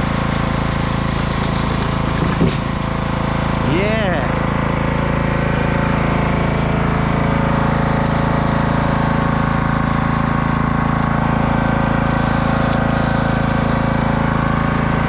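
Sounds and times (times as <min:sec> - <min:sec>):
lawnmower engine running: 0:00.0 - 0:15.0.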